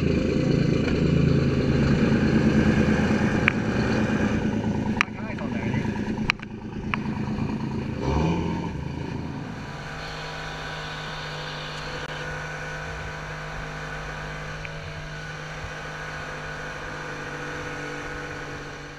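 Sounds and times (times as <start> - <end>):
outboard engine revving: 0.0 - 18.9.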